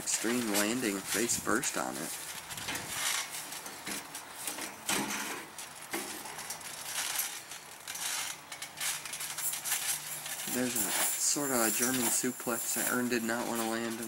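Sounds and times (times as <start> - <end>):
thumbtacks rattling and crunching: 0.0 - 14.0.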